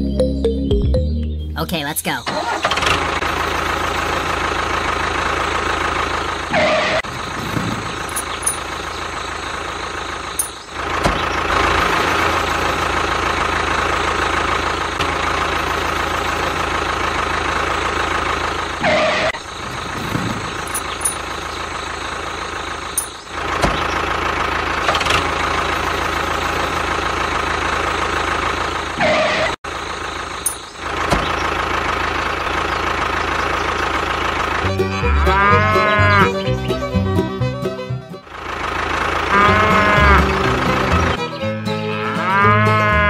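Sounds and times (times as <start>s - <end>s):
tractor engine idling: 1.8s - 29.0s, 29.6s - 43.0s.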